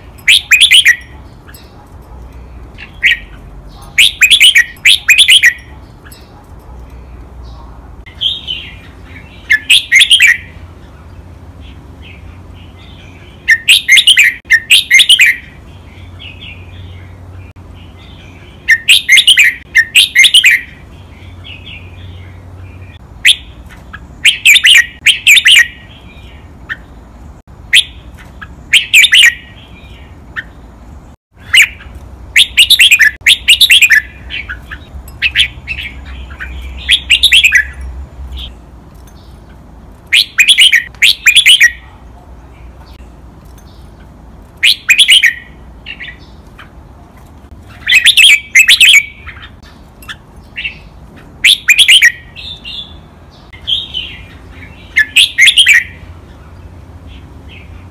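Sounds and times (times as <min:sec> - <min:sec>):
bird singing high phrases: 0:00.0 - 0:46.8, 0:47.5 - 0:57.9.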